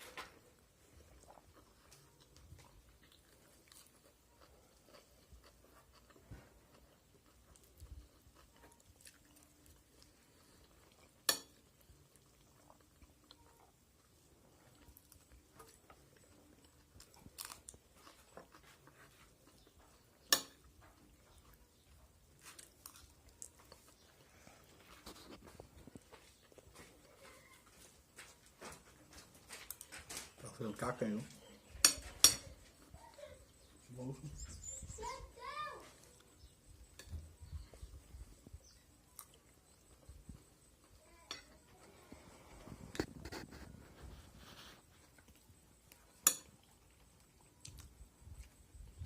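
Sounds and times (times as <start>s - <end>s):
person chewing food: 0.0s - 30.3s, 36.0s - 49.0s.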